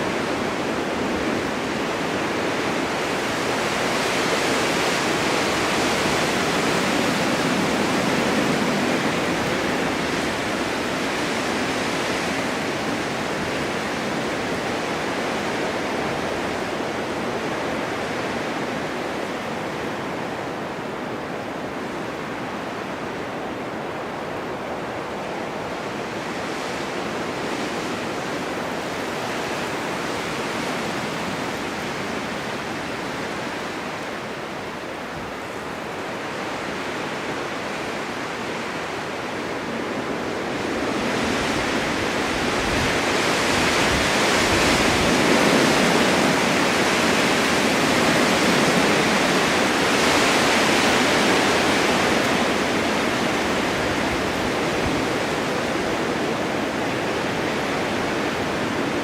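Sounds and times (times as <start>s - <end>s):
blizzard wind rushing: 0.0s - 59.0s.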